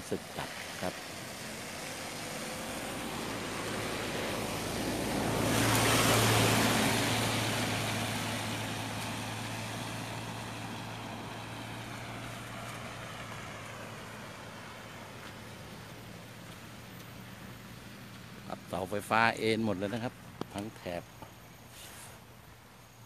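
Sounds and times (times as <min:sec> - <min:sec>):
vehicle driving past: 0:00.0 - 0:22.1
low engine hum: 0:00.0 - 0:23.0.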